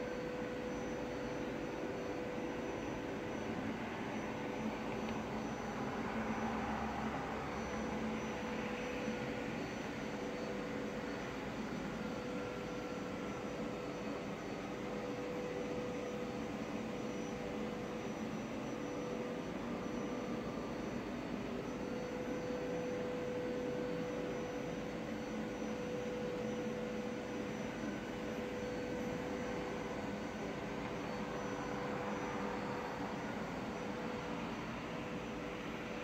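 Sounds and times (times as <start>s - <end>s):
constant hum: 0.0s - 36.0s.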